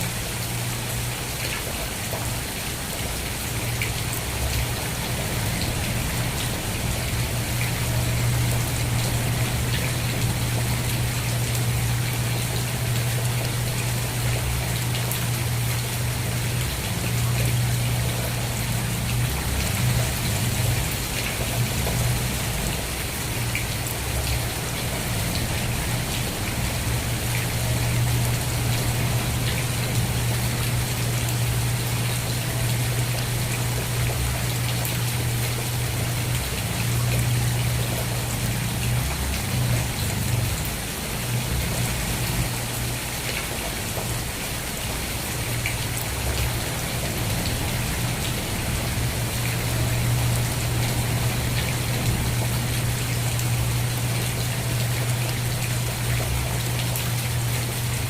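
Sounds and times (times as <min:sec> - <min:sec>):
constant low rumble: 0:00.0 - 0:58.0
rain falling: 0:00.0 - 0:58.0.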